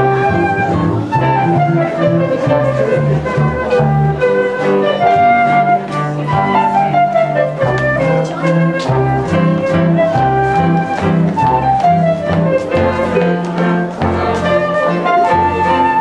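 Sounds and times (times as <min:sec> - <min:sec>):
flute melody: 0:00.0 - 0:16.0
small ensemble playing a waltz: 0:00.0 - 0:16.0.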